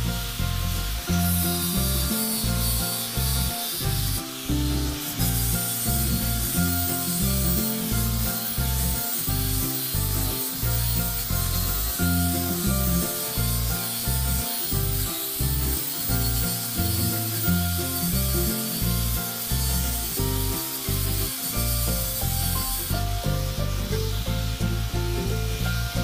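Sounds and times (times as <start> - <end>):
steady high hiss: 0.0 - 26.0
stepping bass line: 0.0 - 26.0.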